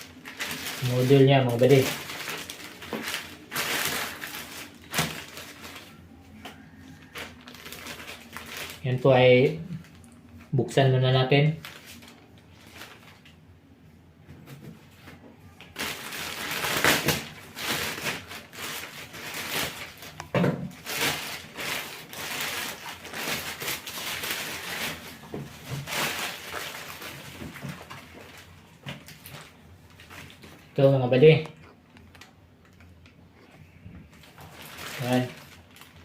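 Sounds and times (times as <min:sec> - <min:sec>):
packaging rustling and scraping: 0:00.0 - 0:09.0, 0:11.6 - 0:13.3, 0:14.8 - 0:30.7, 0:33.5 - 0:36.0.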